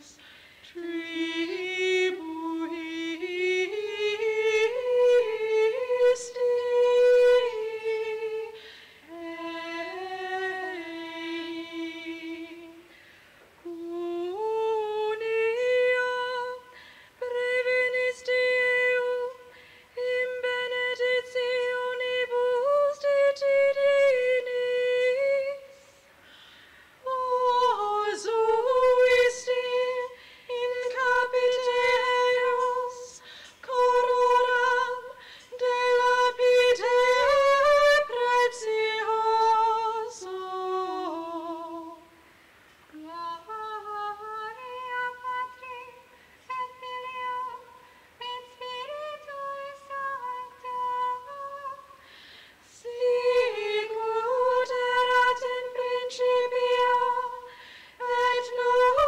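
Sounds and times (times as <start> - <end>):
high voice singing unaccompanied: 0.0 - 12.9, 13.6 - 25.8, 27.0 - 42.2, 42.9 - 52.0, 52.7 - 59.0.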